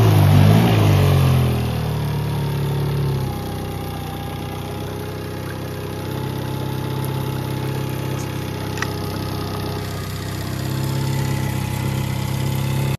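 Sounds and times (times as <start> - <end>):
outboard motor idling: 0.0 - 12.9.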